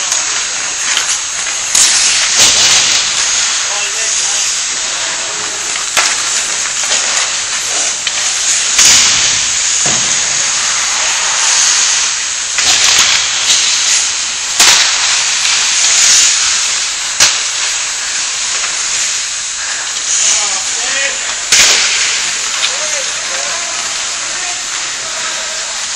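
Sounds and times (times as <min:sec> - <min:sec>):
skate blades hissing on ice: 0:00.0 - 0:25.9.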